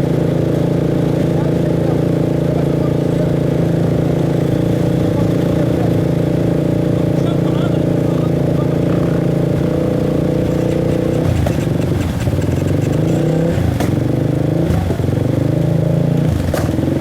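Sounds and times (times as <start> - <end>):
motorcycle engine running at low revs: 0.0 - 17.0.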